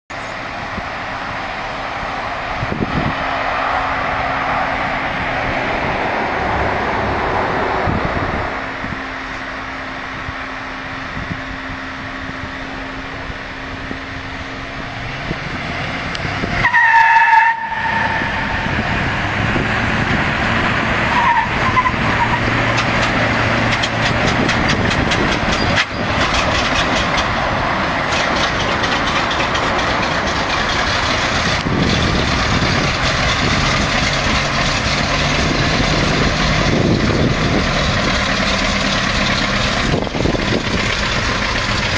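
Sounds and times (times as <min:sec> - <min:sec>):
vehicle engines running: 0:00.1 - 0:41.9.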